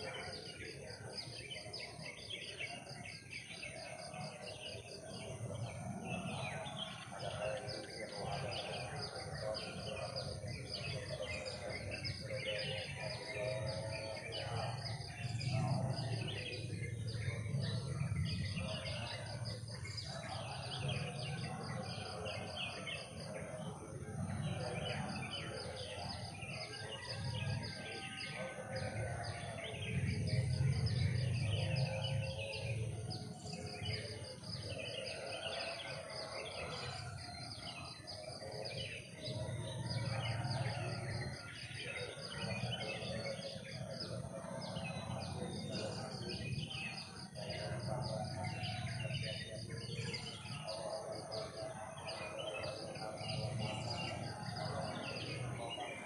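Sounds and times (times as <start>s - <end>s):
chorus of chirping calls: 0.0s - 56.0s.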